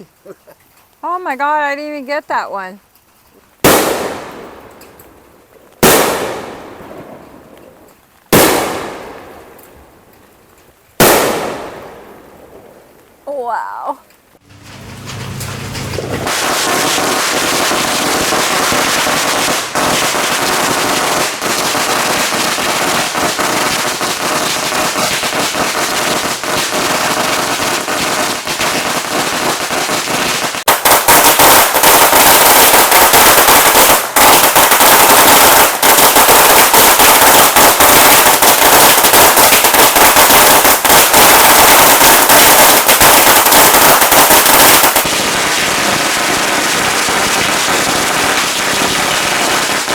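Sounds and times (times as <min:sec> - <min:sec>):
fireworks crackling pops: 0:00.0 - 0:49.9.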